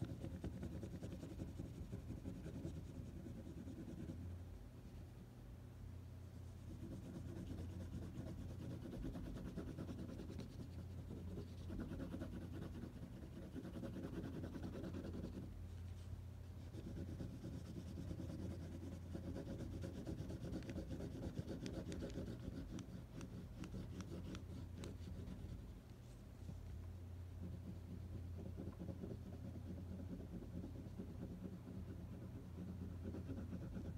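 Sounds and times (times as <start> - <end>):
pencil scratching on paper: 0.0 - 4.3, 6.5 - 15.5, 16.6 - 25.8, 27.4 - 33.9.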